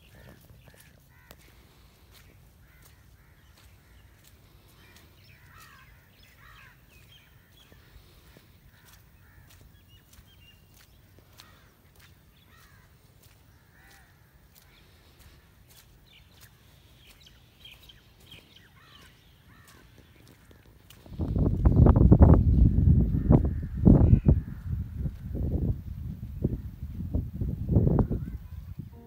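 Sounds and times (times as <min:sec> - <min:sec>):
faint crows cawing: 0:00.0 - 0:25.5.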